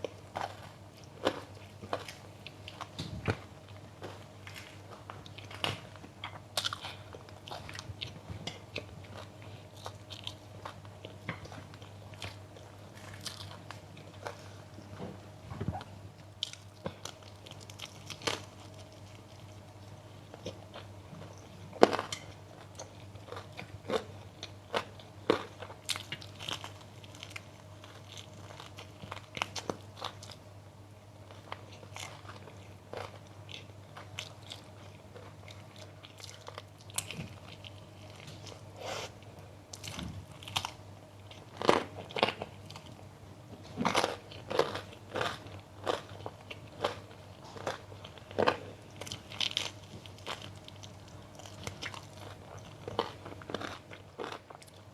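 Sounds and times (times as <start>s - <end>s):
person chewing crunchy food: 0.0s - 30.4s, 31.2s - 54.9s
faint low hum: 0.0s - 54.9s.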